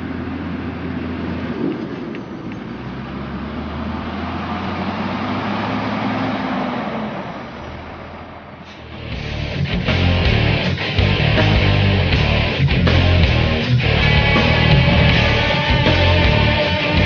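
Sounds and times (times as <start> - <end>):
heavy vehicle engine humming: 0.0 - 17.0.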